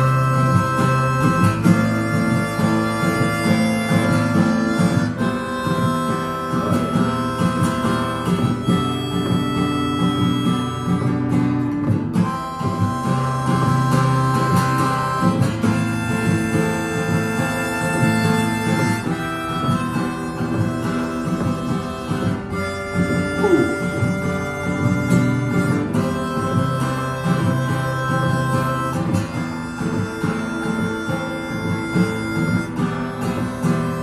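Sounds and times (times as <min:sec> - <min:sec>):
acoustic guitar accompaniment: 0:00.0 - 0:34.0
harmonica long held notes: 0:00.0 - 0:34.0.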